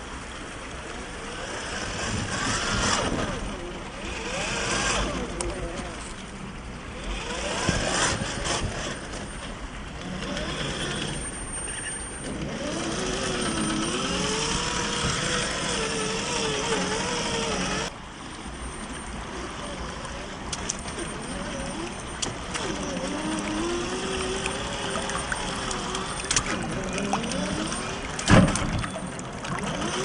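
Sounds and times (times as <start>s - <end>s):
electric motor and gears whining: 0.0s - 30.0s
outdoor rush of noise: 0.0s - 30.0s.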